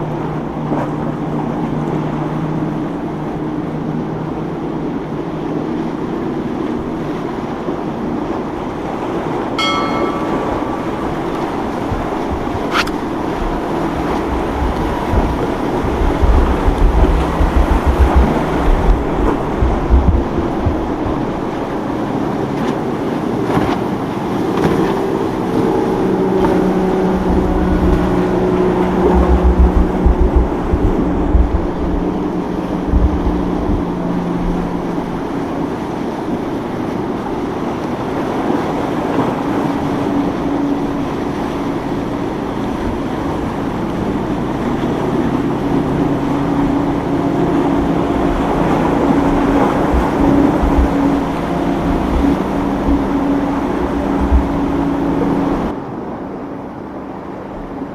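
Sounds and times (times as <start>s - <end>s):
motorboat engines: 0.0s - 57.9s
water rushing: 0.0s - 57.9s.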